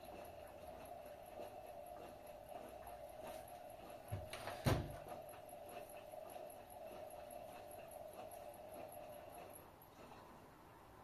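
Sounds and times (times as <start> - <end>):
faint regular ticking: 0.0 - 11.0
washing machine humming: 0.0 - 11.0.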